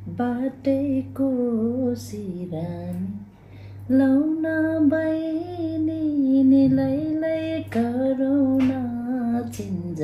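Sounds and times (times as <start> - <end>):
woman singing unaccompanied: 0.0 - 10.0.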